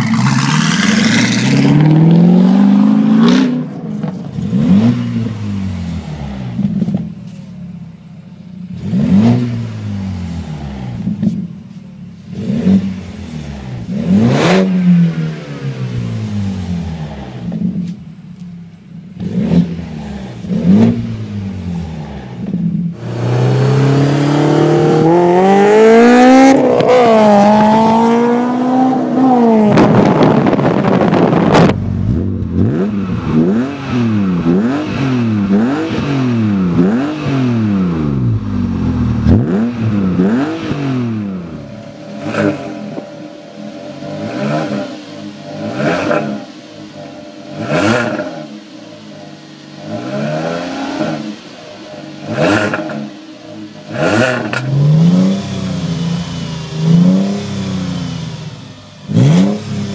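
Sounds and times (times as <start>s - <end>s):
car exhausts revving: 0.0s - 7.5s, 12.1s - 18.0s, 18.8s - 59.9s.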